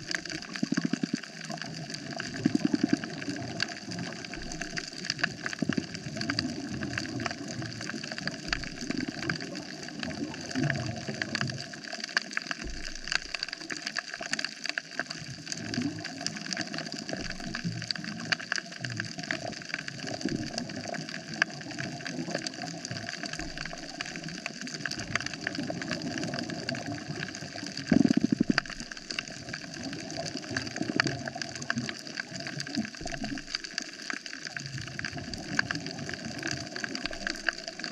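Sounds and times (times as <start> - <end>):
crackle of tiny clicks: 0.0 - 37.9.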